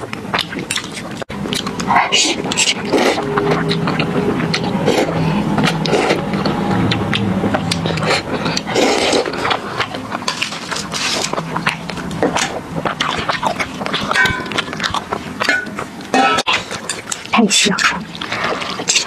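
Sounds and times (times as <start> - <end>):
noodle slurping and chewing: 0.0 - 19.0.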